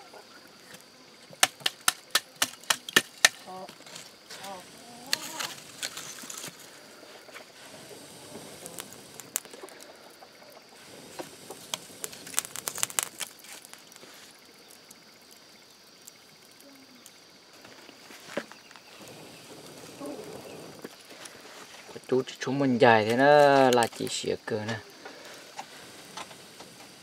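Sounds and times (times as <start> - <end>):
faint hiss: 0.0 - 27.0
wood fire crackling: 0.0 - 27.0.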